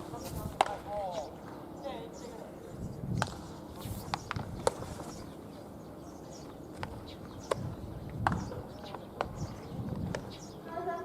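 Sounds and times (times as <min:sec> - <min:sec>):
open-air background noise: 0:00.0 - 0:11.0.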